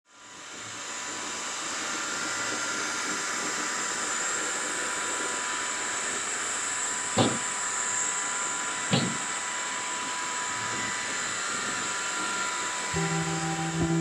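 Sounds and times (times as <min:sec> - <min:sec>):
robot vacuum cleaner whirring: 0:00.2 - 0:14.0.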